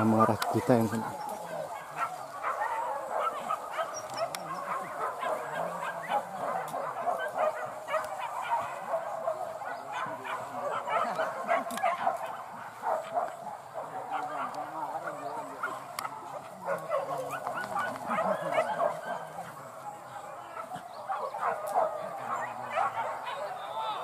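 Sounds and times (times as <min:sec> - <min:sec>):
dogs barking and yelping: 0:00.0 - 0:24.0.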